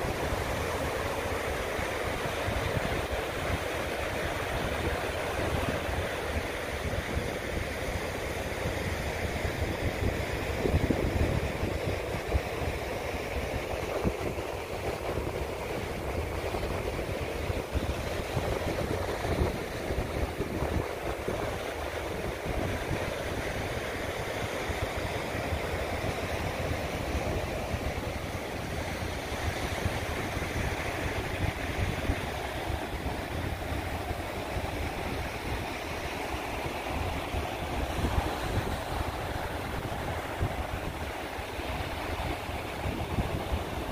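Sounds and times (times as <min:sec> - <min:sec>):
ocean surf washing onto shore: 0:00.0 - 0:43.9
wind buffeting microphone: 0:00.0 - 0:43.9.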